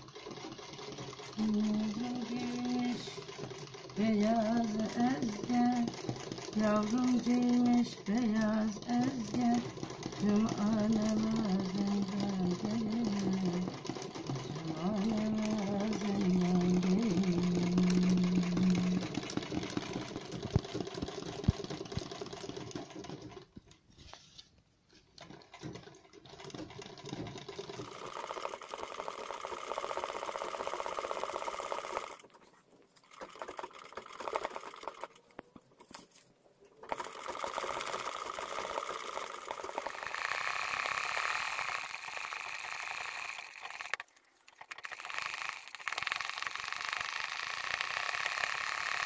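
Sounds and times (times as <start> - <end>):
sewing machine stitching: 0.0 - 24.1, 25.0 - 36.0, 36.8 - 49.0.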